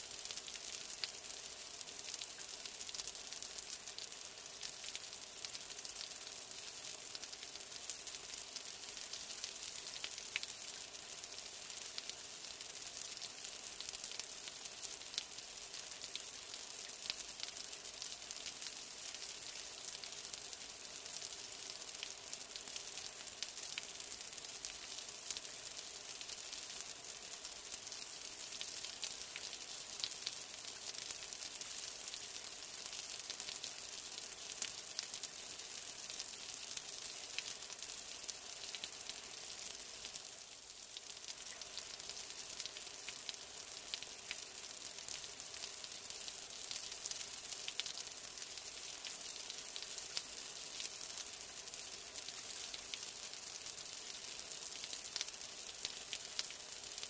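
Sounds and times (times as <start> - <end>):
raindrops ticking on hard surfaces: 0.0 - 57.0
steady rain hiss: 0.0 - 57.0.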